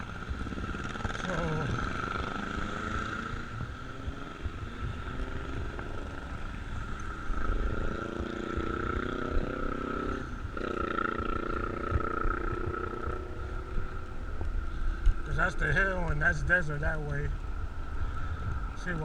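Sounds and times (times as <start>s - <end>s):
bicycle road noise: 0.0s - 19.0s
wind buffeting microphone: 0.0s - 19.0s.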